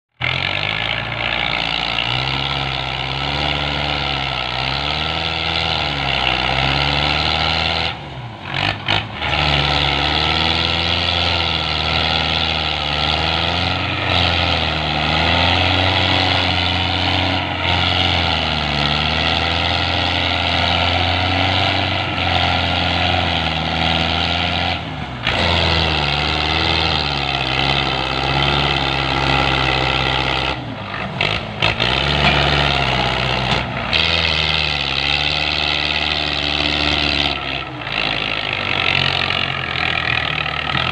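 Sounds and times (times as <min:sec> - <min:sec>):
tractor diesel engine labouring: 0:00.1 - 0:40.9.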